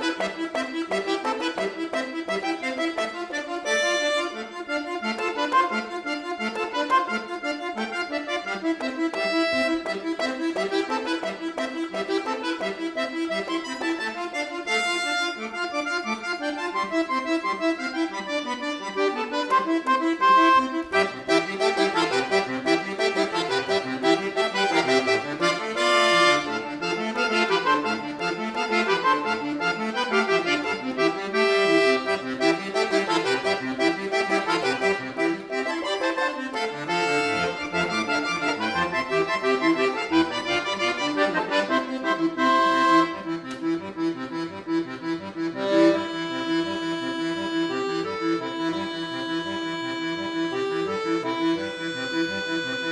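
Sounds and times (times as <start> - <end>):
solo accordion playing: 0.0 - 52.9.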